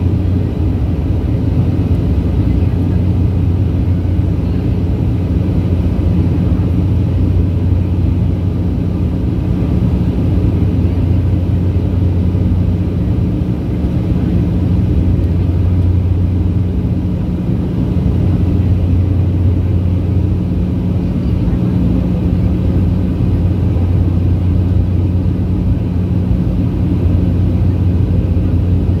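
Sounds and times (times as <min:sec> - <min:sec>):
propeller hum in aircraft cabin: 0:00.0 - 0:29.0.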